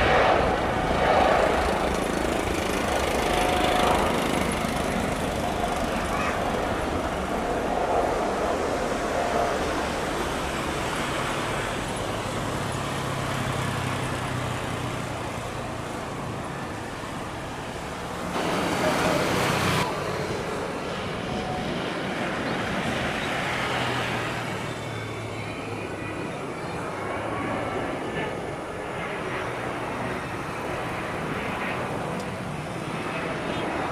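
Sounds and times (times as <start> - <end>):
distant jet engines rumbling: 0.0 - 33.9
road traffic noise: 0.0 - 33.9.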